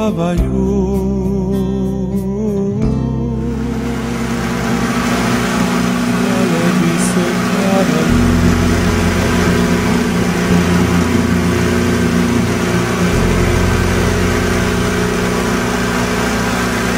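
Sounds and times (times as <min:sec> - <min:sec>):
outboard motors running: 0:03.1 - 0:16.9.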